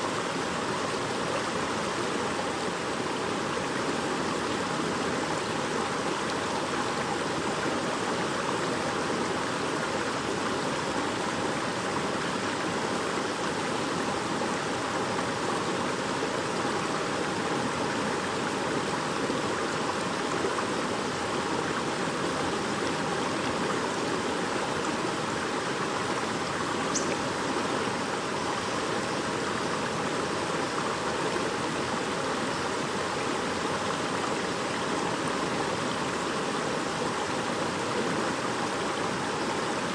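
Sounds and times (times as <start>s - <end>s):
shallow stream babbling: 0.0s - 39.9s.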